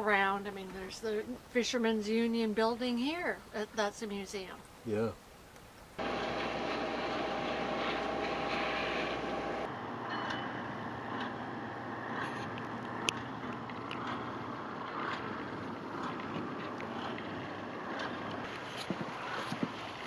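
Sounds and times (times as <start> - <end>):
boat engine humming: 0.0 - 4.5, 5.3 - 20.0.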